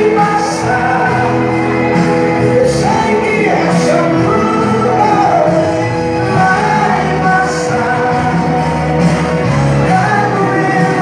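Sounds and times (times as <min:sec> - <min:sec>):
backing music: 0:00.0 - 0:11.0
man singing into a microphone: 0:00.0 - 0:11.0.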